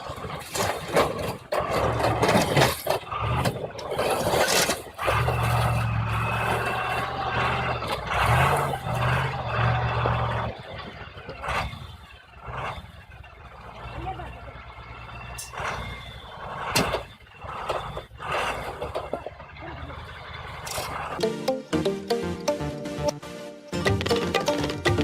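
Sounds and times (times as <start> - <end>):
heavy vehicle engine humming: 0.0 - 25.0.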